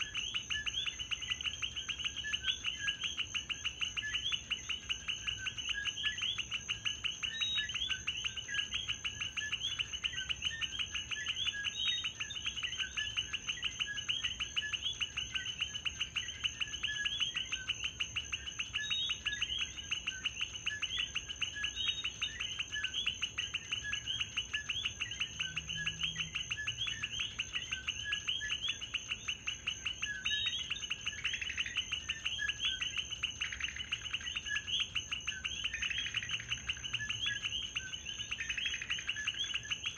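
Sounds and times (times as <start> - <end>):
frogs chirping: 0.0 - 39.9
high-pitched insect tone: 0.0 - 39.9.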